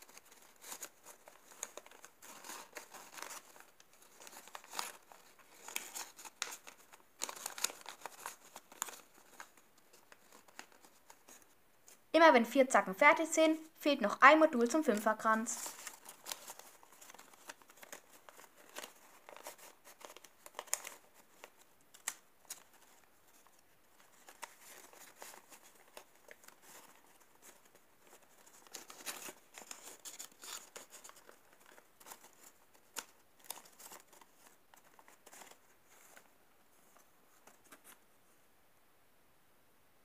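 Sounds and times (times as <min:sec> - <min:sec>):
paper rustling and crinkling: 0:00.0 - 0:12.0, 0:14.6 - 0:38.0
small paper clicks: 0:00.0 - 0:12.0, 0:15.6 - 0:36.3.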